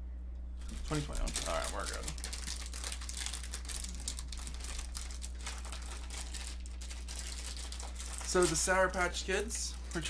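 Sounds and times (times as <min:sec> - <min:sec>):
low electrical hum: 0:00.0 - 0:10.0
plastic bag crinkling: 0:00.6 - 0:10.0.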